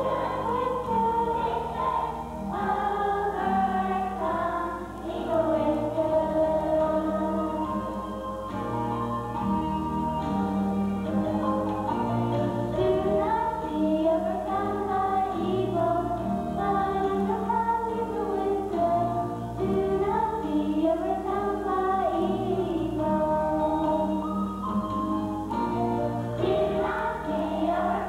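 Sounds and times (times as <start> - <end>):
children's choir singing: 0.0 - 8.6, 11.0 - 28.0
instrumental accompaniment: 0.0 - 28.0.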